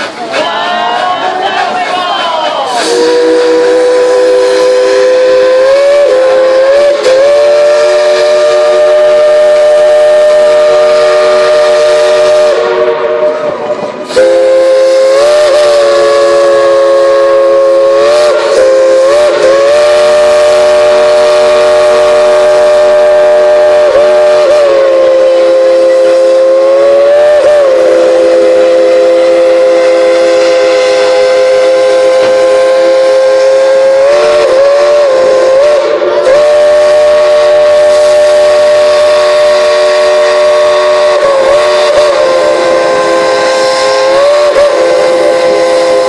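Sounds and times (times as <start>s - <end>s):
steam whistle chord blasts: 2.7s - 46.0s.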